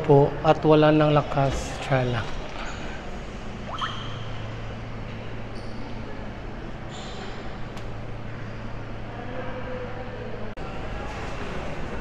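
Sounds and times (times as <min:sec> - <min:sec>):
low hum: 0:02.2 - 0:12.0.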